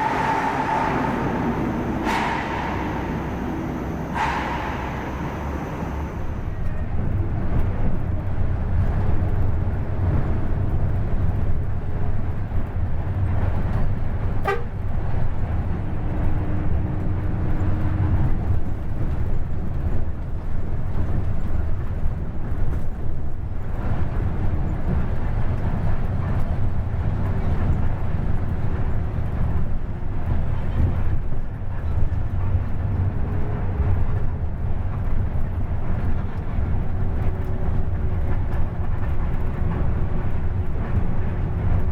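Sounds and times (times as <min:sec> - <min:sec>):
bus engine rumbling: 0:00.0 - 0:41.9.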